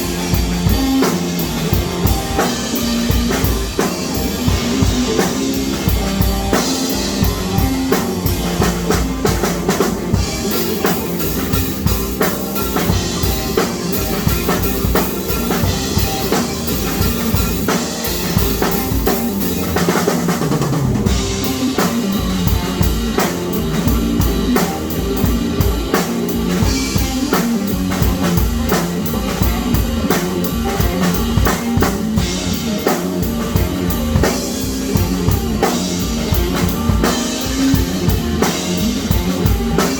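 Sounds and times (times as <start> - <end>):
drum kit quick beat: 0.0 - 39.9
rock music: 0.0 - 39.9.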